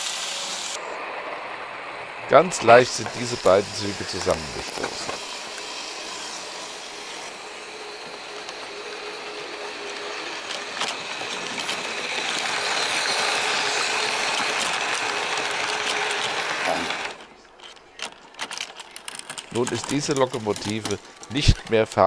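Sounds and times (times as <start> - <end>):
model locomotive motor whirring: 0.0 - 22.0
running gear clicking: 2.4 - 22.0.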